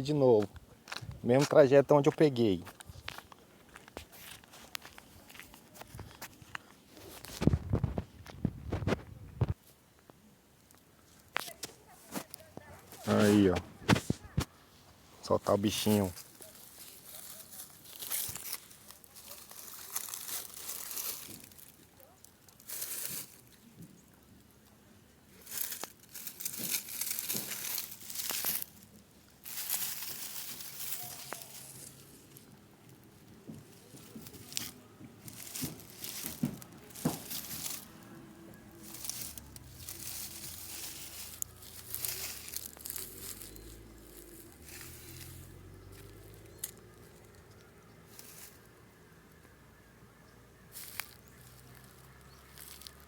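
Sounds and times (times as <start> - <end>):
rustling and crinkling: 0.0 - 49.6, 50.7 - 53.0.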